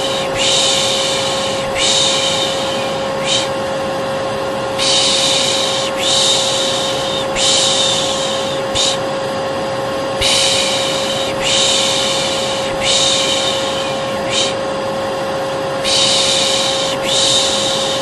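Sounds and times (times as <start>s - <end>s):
person shushing: 0.0s - 3.7s, 4.8s - 9.1s, 10.2s - 14.7s, 15.8s - 18.0s
hair dryer humming: 0.0s - 18.0s.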